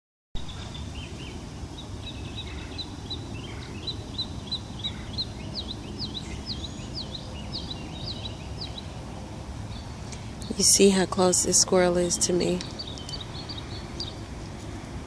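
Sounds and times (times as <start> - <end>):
songbird chirping: 0.4 - 15.0.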